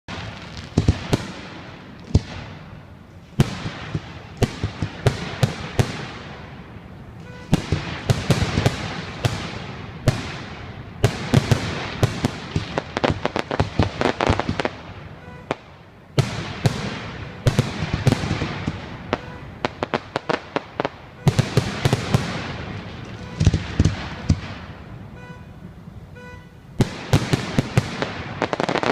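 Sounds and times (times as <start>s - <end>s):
fireworks bangs and crackling: 0.1s - 28.9s.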